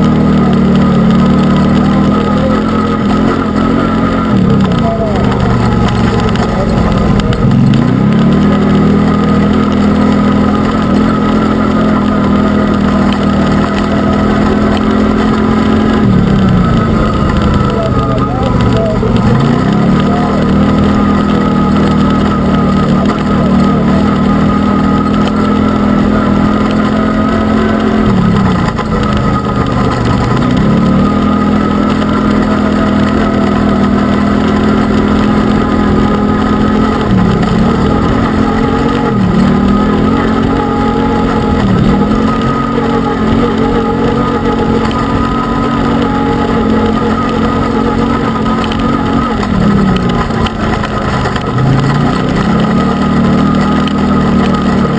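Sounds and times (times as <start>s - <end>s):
utility vehicle engine revving: 0.0s - 54.9s.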